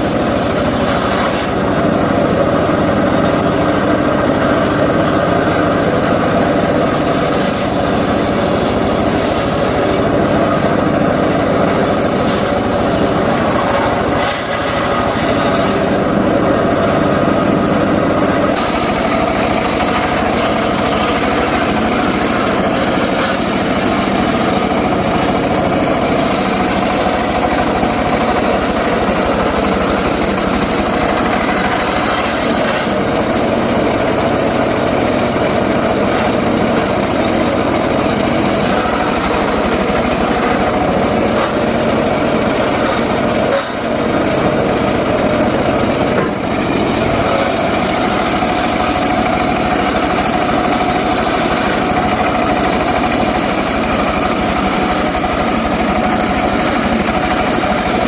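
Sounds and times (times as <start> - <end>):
circular saw engine running: 0.0 - 58.0.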